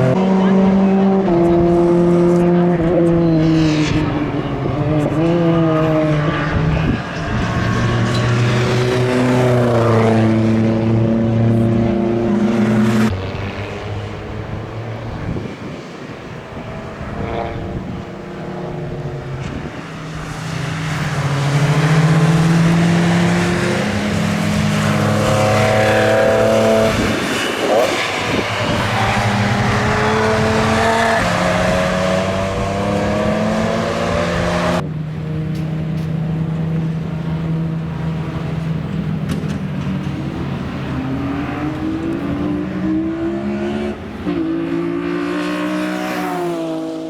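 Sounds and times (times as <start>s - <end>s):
car engine accelerating hard: 0.0s - 47.0s.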